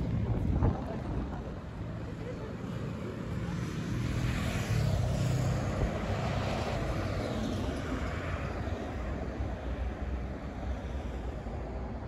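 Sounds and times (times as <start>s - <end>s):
passing vehicle engine rumble: 0.0s - 12.0s.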